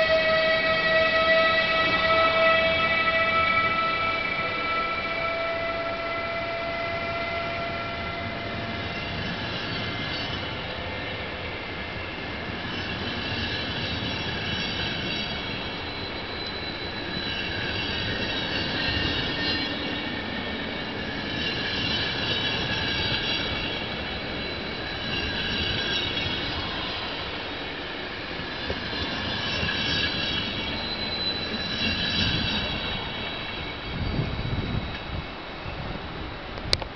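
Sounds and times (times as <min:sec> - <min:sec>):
train wheel squeal: 0:00.0 - 0:36.2
train wheels rumbling on rails: 0:00.0 - 0:36.9.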